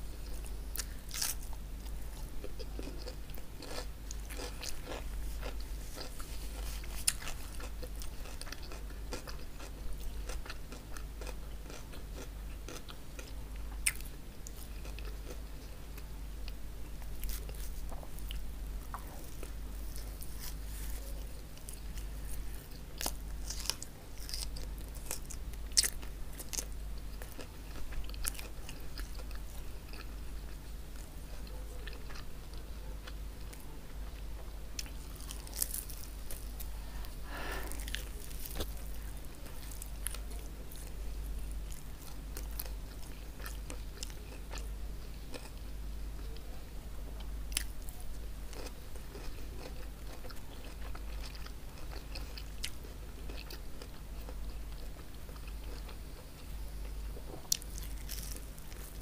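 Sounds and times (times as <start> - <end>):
steady low hum: 0.0 - 59.0
crunchy chewing and biting: 0.2 - 44.7, 47.5 - 56.2, 57.2 - 59.0.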